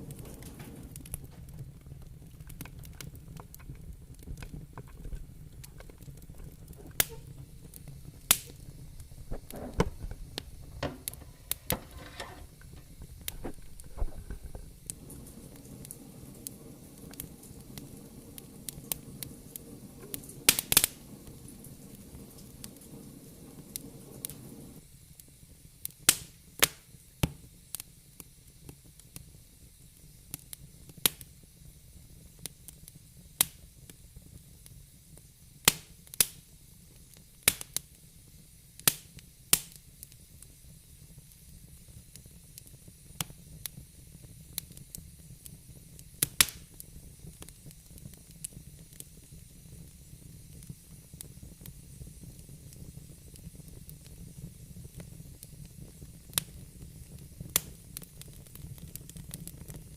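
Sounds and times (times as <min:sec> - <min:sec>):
fire crackling and popping: 0:00.0 - 0:59.9
soft hiss: 0:00.0 - 0:59.9.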